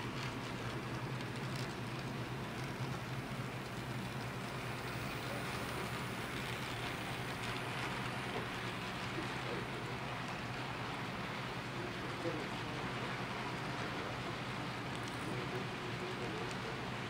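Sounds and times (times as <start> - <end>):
model train wheels on rail: 0.0 - 17.0.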